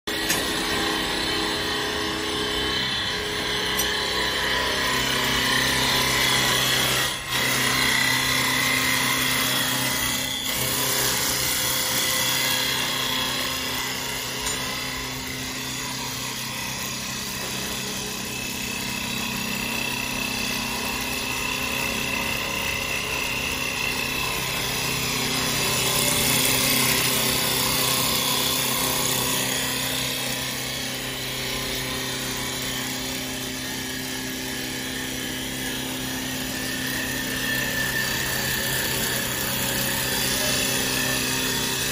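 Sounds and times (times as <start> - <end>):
lathe tool shaving wood: 0.1 - 41.9.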